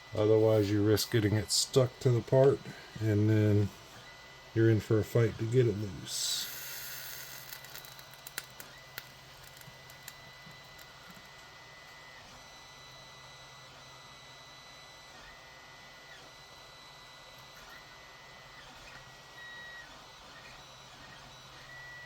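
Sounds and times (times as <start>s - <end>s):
faint high-pitched electronic whine: 0.0s - 22.0s.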